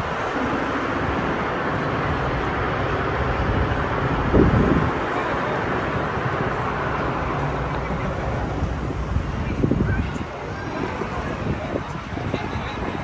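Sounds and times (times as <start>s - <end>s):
distant voices: 0.0s - 13.0s
traffic: 0.0s - 13.0s.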